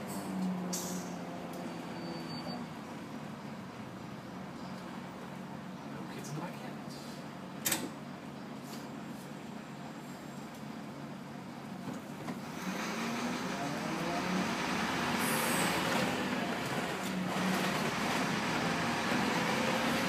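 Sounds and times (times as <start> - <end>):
diesel bus engine pulling: 0.0 - 20.0.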